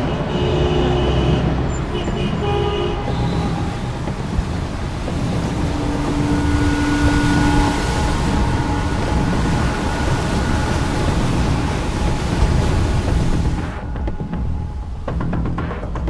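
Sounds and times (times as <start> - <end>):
low rumble of road traffic: 0.0 - 15.6.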